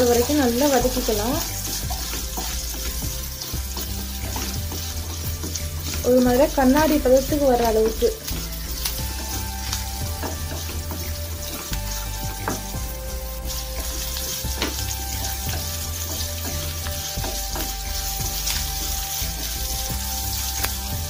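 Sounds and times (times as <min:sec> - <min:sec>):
onions sizzling in hot oil: 0:00.0 - 0:21.0
spatula scraping a pan: 0:00.0 - 0:21.0.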